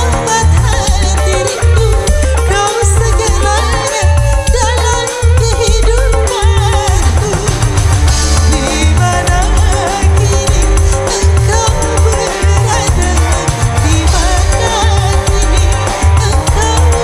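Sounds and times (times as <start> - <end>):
heavy pulsing bass beat: 0.0 - 17.0
live band playing: 0.0 - 17.0.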